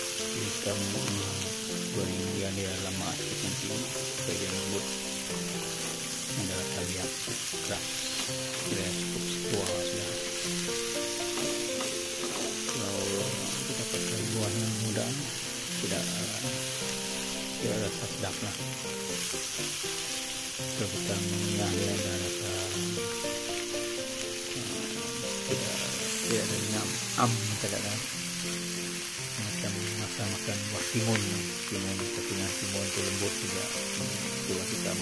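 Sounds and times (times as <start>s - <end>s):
beans sizzling in oil: 0.0s - 35.0s.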